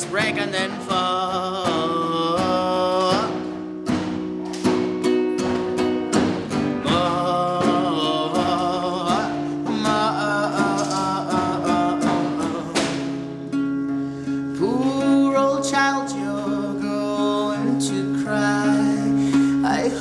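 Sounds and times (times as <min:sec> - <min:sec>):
rapid guitar picking: 0:00.0 - 0:20.0.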